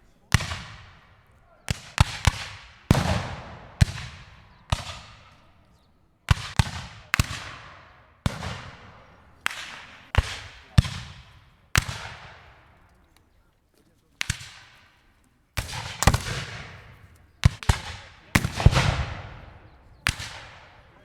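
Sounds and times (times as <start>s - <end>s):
rifle shots with echo: 0.2s - 12.8s, 14.2s - 15.0s, 15.6s - 21.0s.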